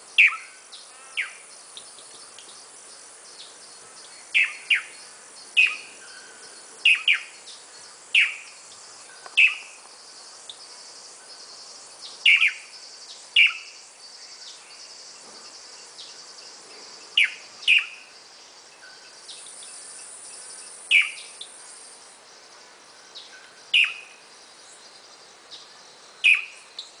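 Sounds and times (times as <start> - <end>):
faint insect hiss: 0.0 - 27.0.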